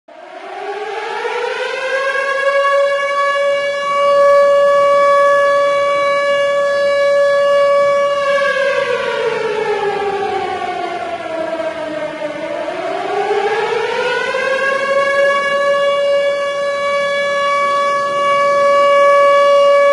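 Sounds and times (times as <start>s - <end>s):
civil defense siren wailing: 0.1s - 19.9s.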